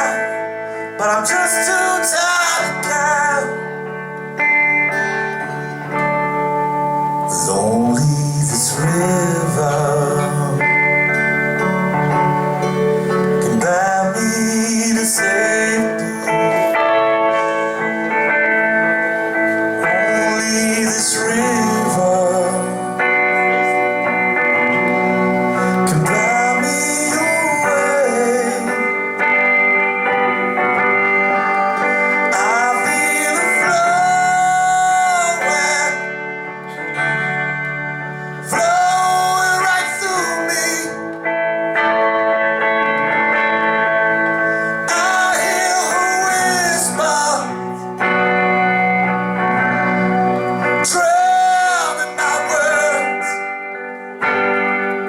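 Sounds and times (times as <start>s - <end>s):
man singing long notes: 0.0s - 4.3s, 4.9s - 41.2s, 44.1s - 54.2s
acoustic guitars playing: 0.0s - 55.0s.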